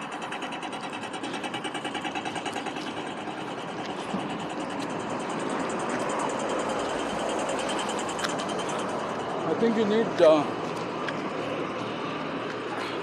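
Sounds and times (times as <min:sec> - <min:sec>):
fast even clicking: 0:00.0 - 0:11.3
street noise: 0:00.0 - 0:13.0.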